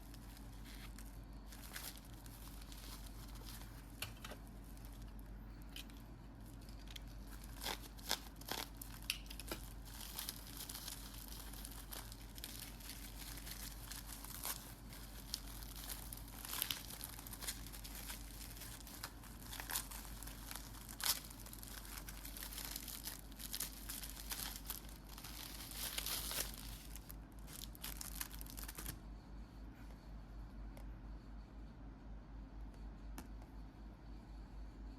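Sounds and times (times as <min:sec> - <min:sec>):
plastic packaging crinkling: 0:00.0 - 0:29.0
low steady hum: 0:00.0 - 0:34.9.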